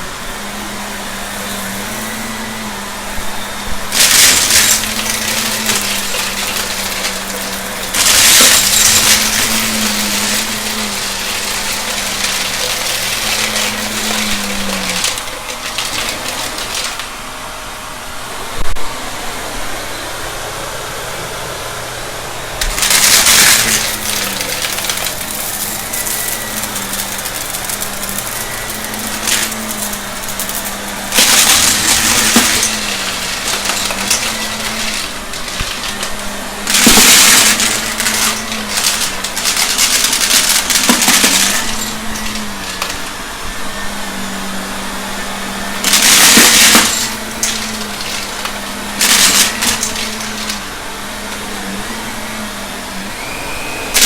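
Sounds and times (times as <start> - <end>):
debris rattling in vacuum: 0.0 - 17.8, 22.4 - 54.0
vacuum cleaner running: 0.0 - 54.0.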